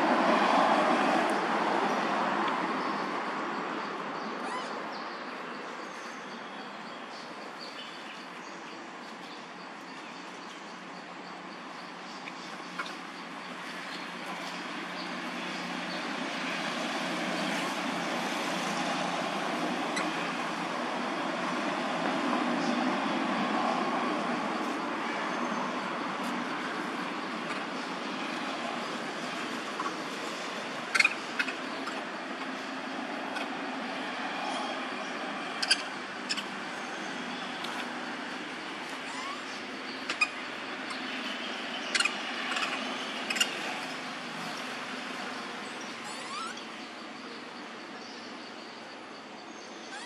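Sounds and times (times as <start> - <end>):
distant traffic hum: 0.0 - 50.0.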